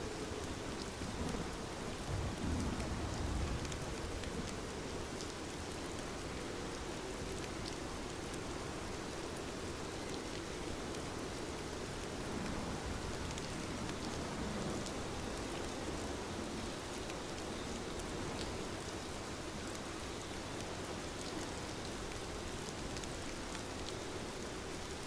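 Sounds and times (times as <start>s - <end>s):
soft rain falling: 0.0s - 25.0s.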